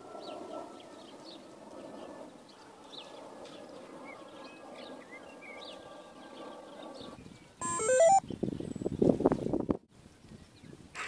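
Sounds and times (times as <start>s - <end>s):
outdoor background noise: 0.0s - 11.0s
birds chirping: 0.1s - 9.6s.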